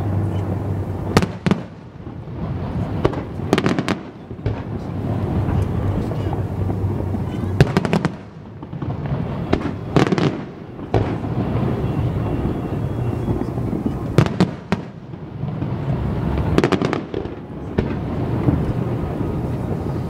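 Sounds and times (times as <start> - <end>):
fireworks bursting: 0.0 - 20.0
low rumble of echoing booms: 0.0 - 20.0.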